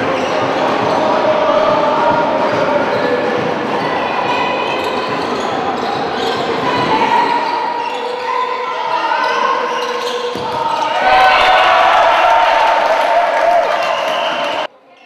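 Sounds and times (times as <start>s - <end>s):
players calling out: 0.0s - 14.7s.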